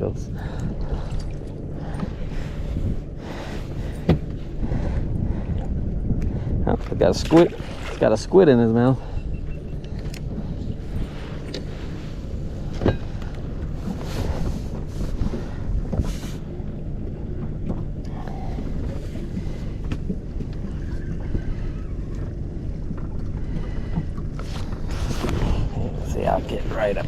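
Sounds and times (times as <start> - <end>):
wind and water rumble: 0.0 - 27.0.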